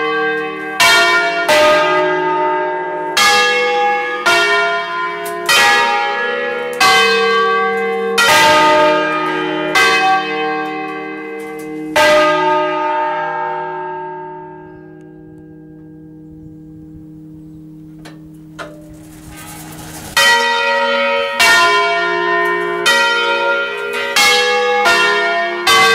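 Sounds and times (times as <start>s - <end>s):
church bells pealing: 0.0s - 25.9s.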